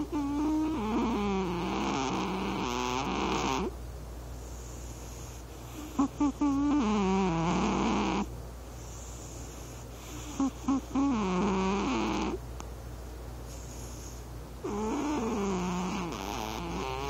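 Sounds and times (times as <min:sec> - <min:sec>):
cat snoring: 0:00.0 - 0:03.8, 0:04.4 - 0:12.4, 0:13.5 - 0:17.0
cat snorting: 0:00.0 - 0:03.8, 0:04.4 - 0:12.4, 0:13.5 - 0:17.0.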